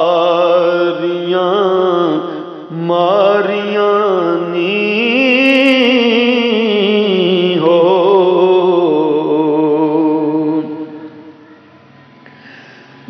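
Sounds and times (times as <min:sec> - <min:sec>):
man singing ornamented notes: 0:00.0 - 0:11.5.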